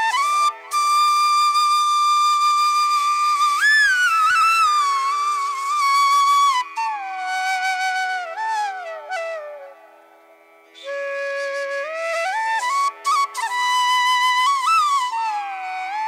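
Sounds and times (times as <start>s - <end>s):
flute sliding between notes: 0.0s - 9.9s, 10.8s - 16.0s.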